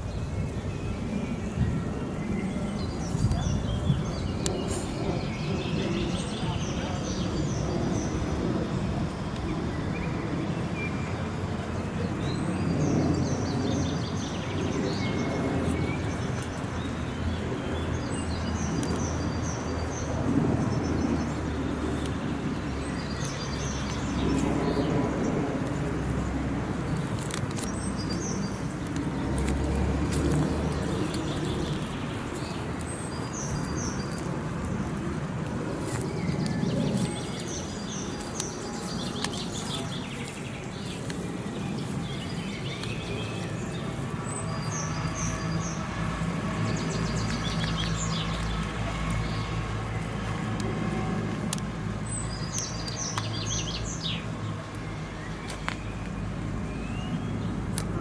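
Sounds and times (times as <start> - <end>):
low rumble of city traffic: 0.0 - 58.0
songbirds chirping: 0.0 - 58.0.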